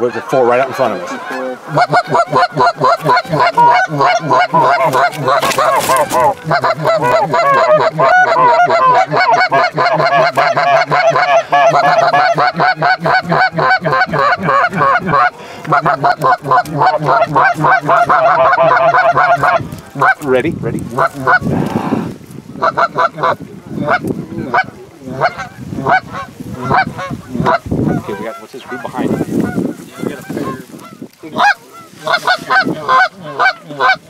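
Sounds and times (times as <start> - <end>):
goose calls honking: 0.0 - 20.3, 20.9 - 21.5, 22.6 - 34.0.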